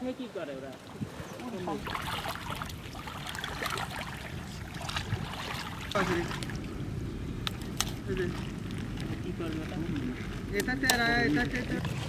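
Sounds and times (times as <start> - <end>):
water sloshing and splashing: 0.5 - 12.0.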